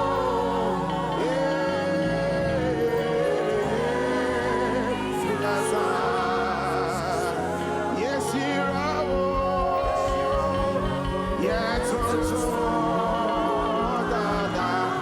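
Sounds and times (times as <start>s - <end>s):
person singing long notes: 0.0s - 15.0s
sustained chords: 0.0s - 15.0s.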